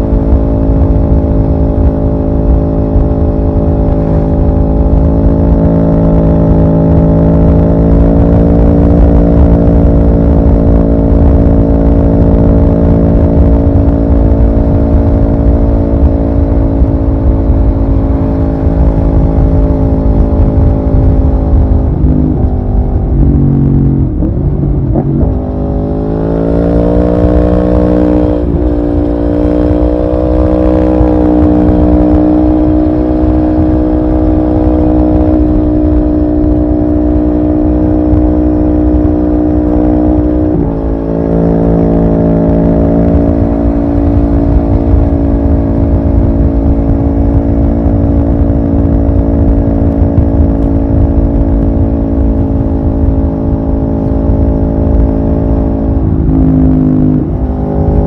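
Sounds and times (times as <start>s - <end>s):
gear change: 0.0s - 58.0s
motorcycle engine running: 0.0s - 58.0s.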